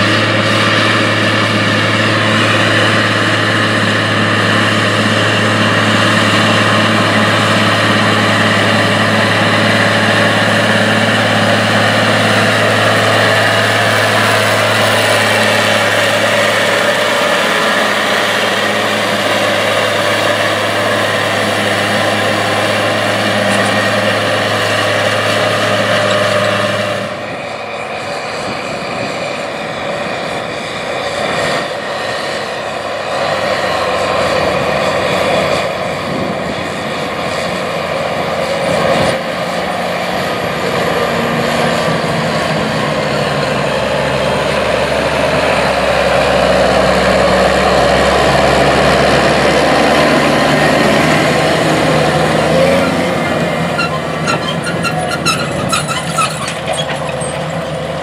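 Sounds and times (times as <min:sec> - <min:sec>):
deep tractor engine hum: 0:00.0 - 0:58.0
tractor engine under load: 0:00.0 - 0:58.0.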